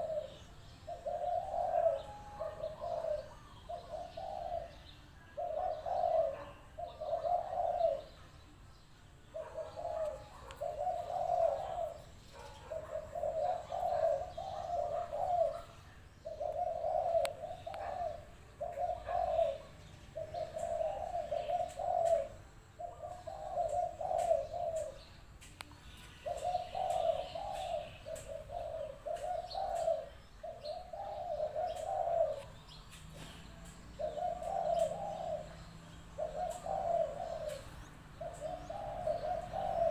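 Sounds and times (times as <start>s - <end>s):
dove cooing: 0.0s - 8.4s, 9.2s - 39.9s.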